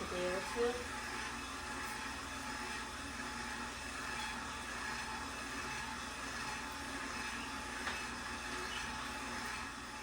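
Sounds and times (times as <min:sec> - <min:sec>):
stand mixer motor running: 0:00.0 - 0:10.0.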